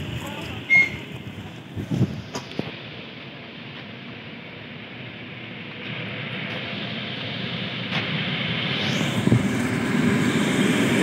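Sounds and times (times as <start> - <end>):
electric train running: 0.0 - 11.0.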